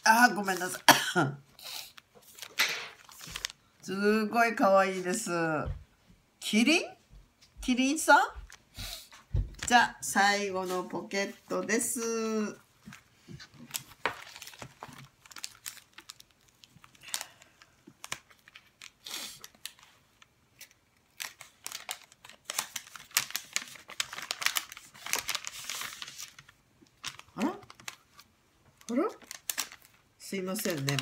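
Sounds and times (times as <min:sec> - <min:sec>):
plastic sleeves and paper crinkling: 0:00.0 - 0:00.9, 0:01.5 - 0:03.8, 0:08.4 - 0:31.0.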